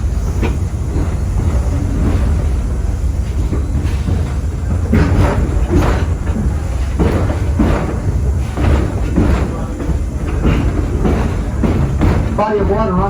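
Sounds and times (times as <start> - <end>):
train car clunks and rattles: 0.0 - 13.0
train car rumbling on rails: 0.0 - 13.0.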